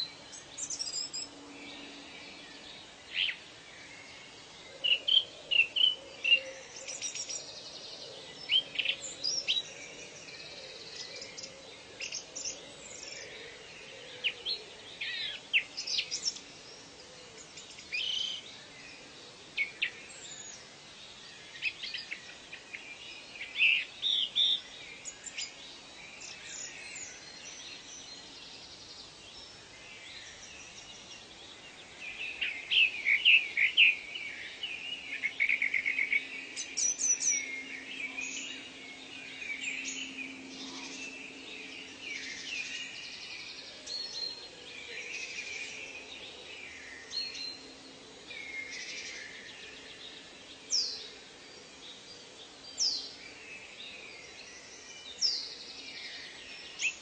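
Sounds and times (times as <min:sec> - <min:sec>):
birds chirping and trilling: 0:00.0 - 0:57.0
faint steady background hiss: 0:00.0 - 0:57.0.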